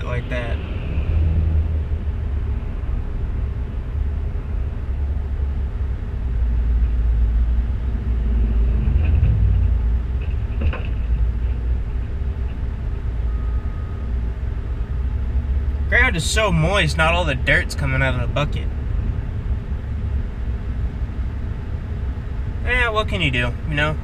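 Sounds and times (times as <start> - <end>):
truck engine rumble: 0.0 - 24.0.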